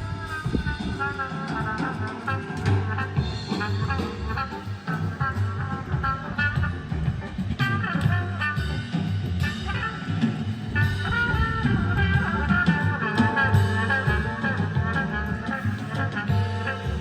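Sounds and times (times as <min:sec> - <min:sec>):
swing jazz through speakers: 0:00.0 - 0:17.0.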